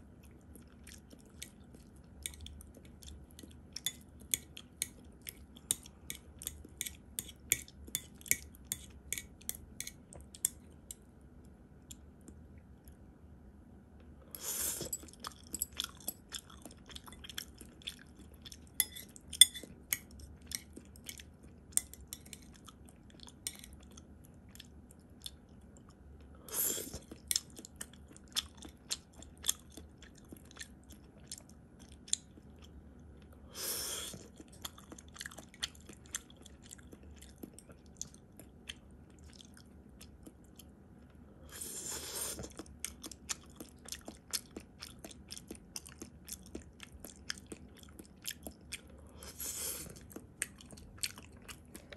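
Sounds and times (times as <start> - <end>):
person chewing rice: 0.0 - 11.0, 14.4 - 51.9.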